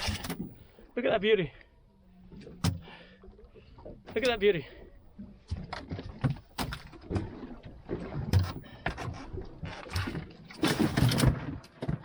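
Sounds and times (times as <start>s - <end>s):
knocks and thumps on boat deck: 2.3s - 12.0s.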